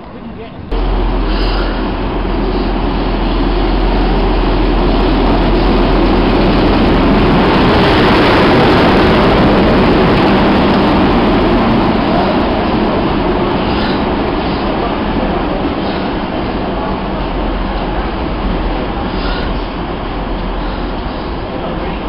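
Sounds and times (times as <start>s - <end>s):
train passing close by: 0.0s - 22.0s.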